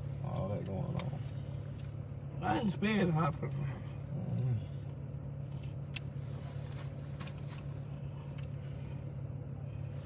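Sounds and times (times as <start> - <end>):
low car cabin hum: 0.0 - 10.0.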